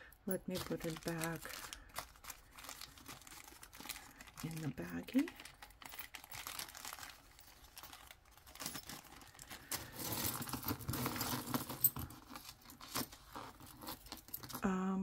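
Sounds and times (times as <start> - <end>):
metal jewelry clinking: 0.0 - 14.6
plastic bag crinkling: 0.3 - 14.6.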